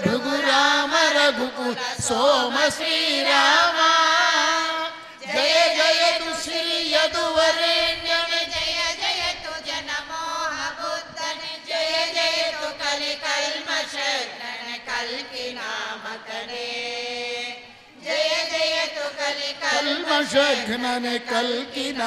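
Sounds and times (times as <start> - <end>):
congregation singing devotional song: 0.0 - 22.0.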